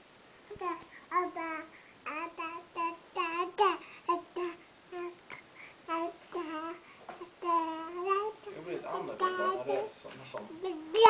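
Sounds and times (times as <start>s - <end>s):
baby babbling and cooing: 0.5s - 9.9s, 10.5s - 11.0s.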